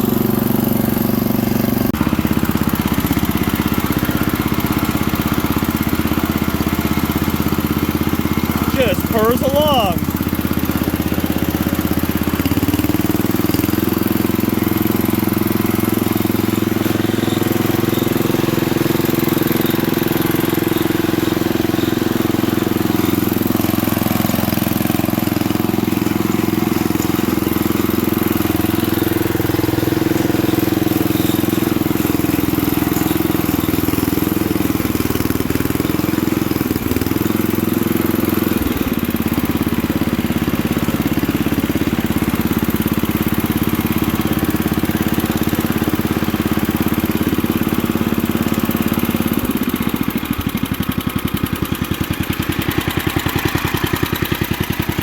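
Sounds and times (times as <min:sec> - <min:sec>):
single-cylinder engine running: 0:00.0 - 0:55.0.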